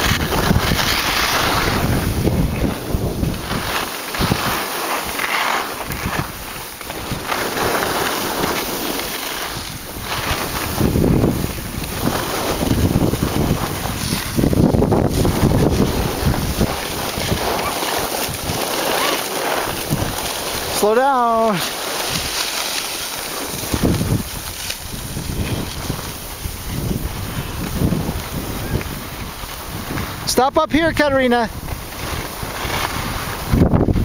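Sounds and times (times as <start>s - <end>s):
skis scraping over packed snow: 0.0s - 34.0s
wind rushing over microphone: 0.0s - 34.0s.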